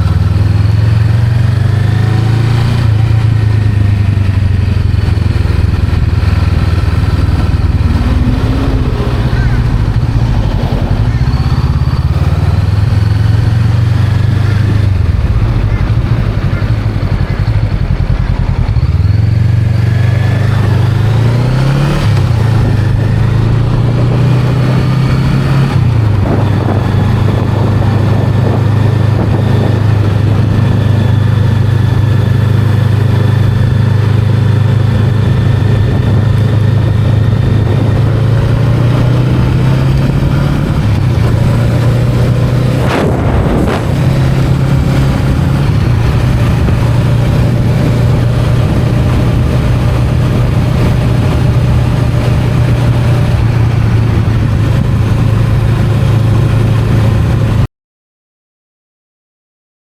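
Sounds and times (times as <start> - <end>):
motorcycle engine running: 0.0 - 57.7.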